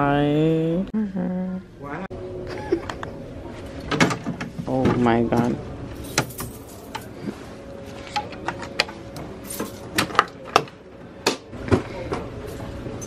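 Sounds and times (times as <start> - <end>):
thin steady hum: 0.0 - 13.0.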